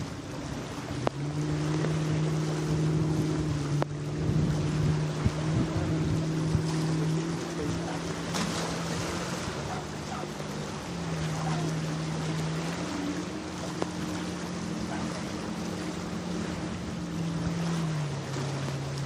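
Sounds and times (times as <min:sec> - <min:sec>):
boat engine droning: 0:00.0 - 0:19.0
wind and water noise: 0:00.0 - 0:19.0.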